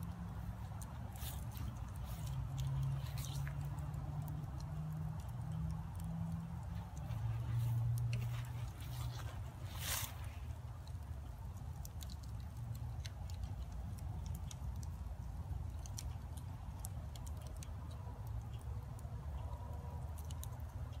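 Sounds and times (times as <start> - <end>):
light clicks and ticks: 0.0 - 21.0
steady low rumble: 0.0 - 21.0.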